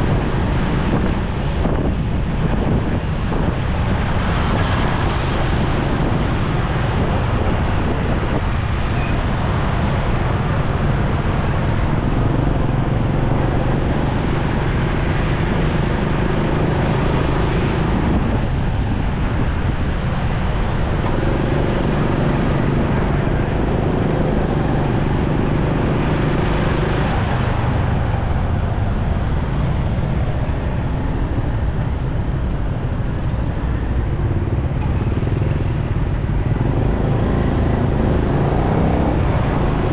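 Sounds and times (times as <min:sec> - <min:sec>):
motorcycle engine hum: 0:00.0 - 0:39.9
road and traffic noise: 0:00.0 - 0:39.9.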